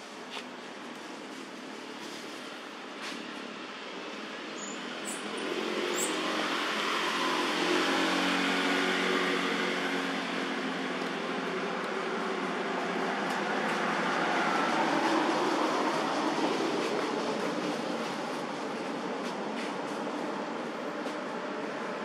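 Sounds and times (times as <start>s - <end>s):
engine hum: 0.0s - 22.0s.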